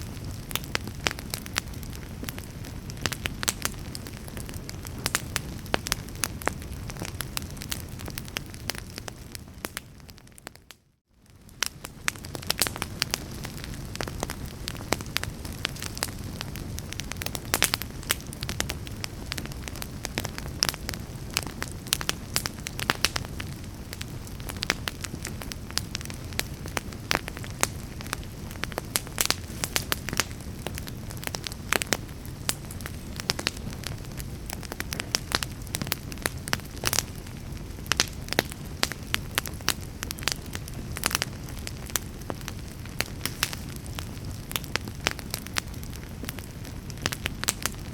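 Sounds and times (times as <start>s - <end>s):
fire crackling and popping: 0.0s - 47.9s
low fire rumble: 0.0s - 47.9s.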